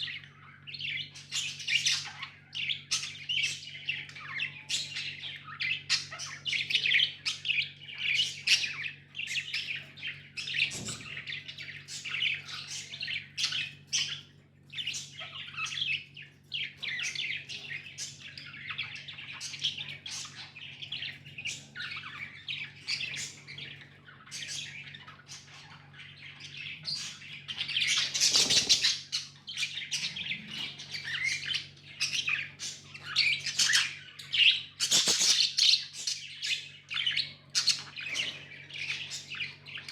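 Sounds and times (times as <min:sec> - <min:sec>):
budgies chattering and chirping: 0:00.0 - 0:39.9
faint low hum: 0:00.0 - 0:39.9.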